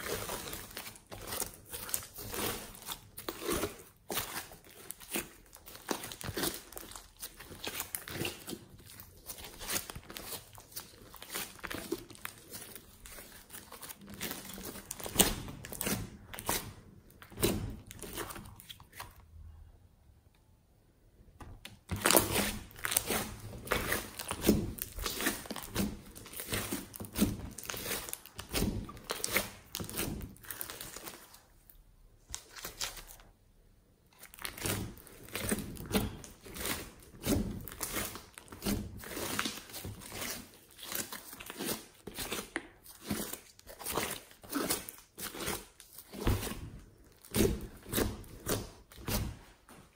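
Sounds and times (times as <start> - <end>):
hands squishing slime: 0.0 - 19.6, 21.5 - 33.4, 34.0 - 49.9.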